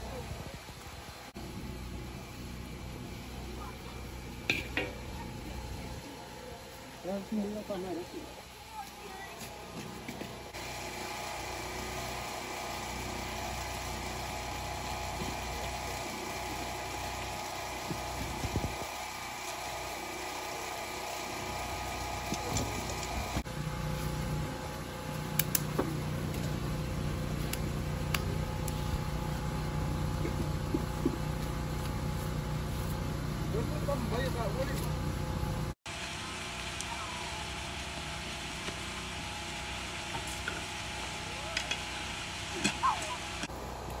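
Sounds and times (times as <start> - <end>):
motor humming: 0.0 - 44.0.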